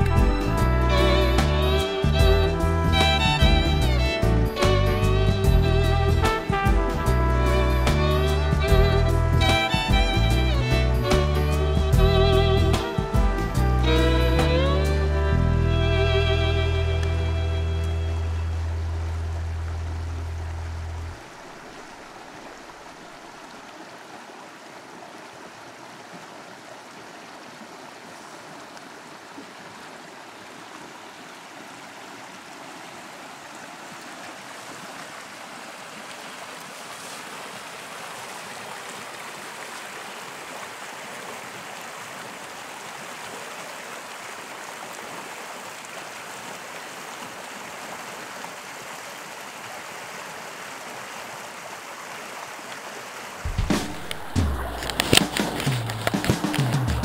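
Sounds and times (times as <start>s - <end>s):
river water rushing over shallows: 0.0s - 57.0s.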